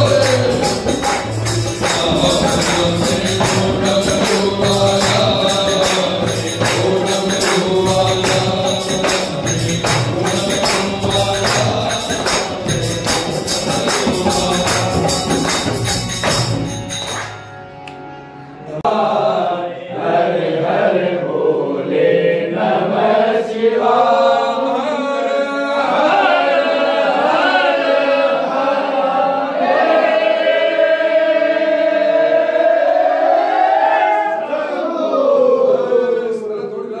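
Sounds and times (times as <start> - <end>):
men chanting in unison: 0.0 - 16.0, 18.8 - 37.0.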